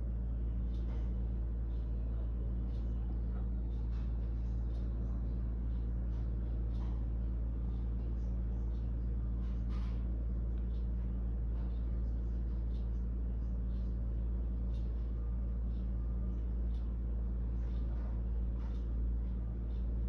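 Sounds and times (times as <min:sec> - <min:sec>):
low phone line hum: 0:00.0 - 0:20.0.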